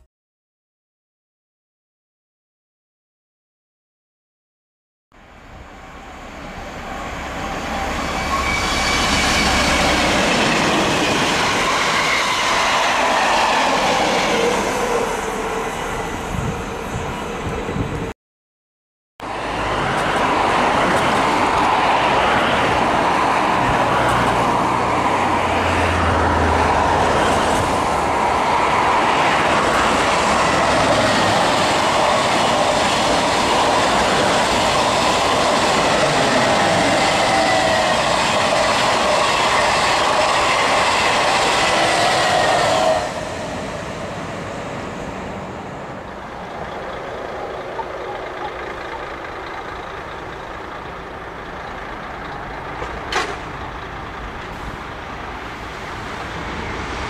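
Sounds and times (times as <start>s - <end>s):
high-speed train passing: 5.2s - 18.2s, 19.2s - 57.0s.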